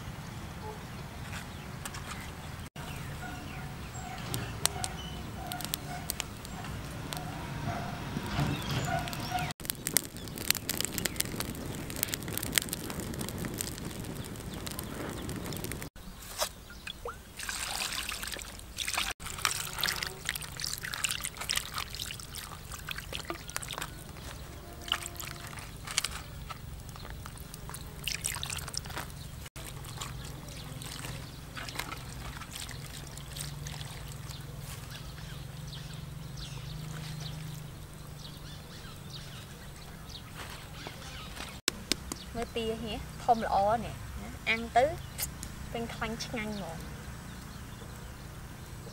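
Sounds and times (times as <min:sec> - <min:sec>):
wood fire crackling: 0:01.3 - 0:16.5, 0:17.2 - 0:48.9.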